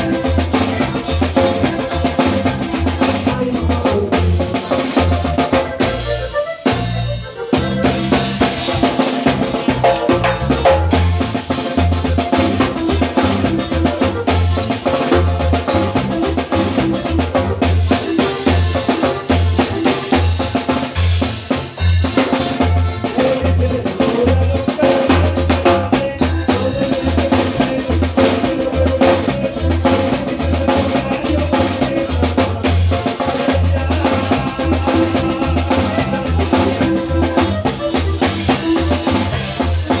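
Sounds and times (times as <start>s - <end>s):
dance tune with drum kit: 0.0s - 40.0s.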